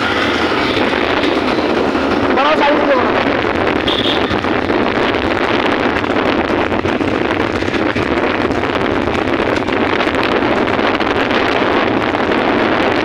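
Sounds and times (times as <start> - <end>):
vehicle road noise: 0.0 - 13.0
wind rushing over microphone: 0.0 - 13.0.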